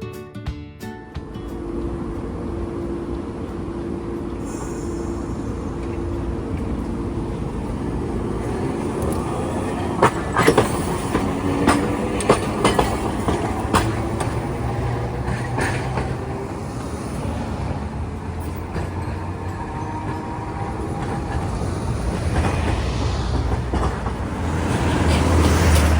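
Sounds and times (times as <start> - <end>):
streetcar low rumble: 0.8 - 25.9
wheels clacking over rail joints: 1.2 - 25.9.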